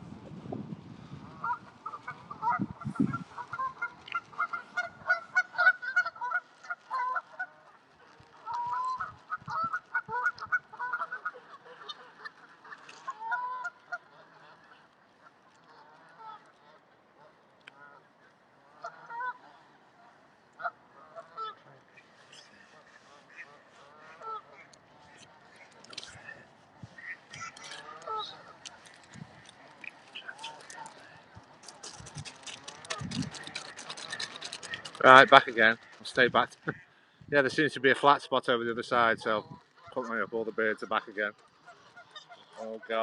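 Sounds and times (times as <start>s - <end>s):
geese honking: 1.0s - 37.2s, 38.6s - 43.0s.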